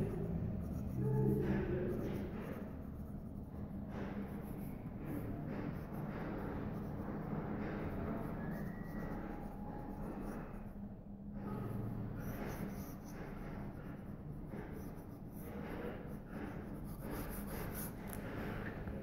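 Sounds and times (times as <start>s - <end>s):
fountain pen scratching on paper: 0.0s - 10.8s, 11.4s - 19.0s.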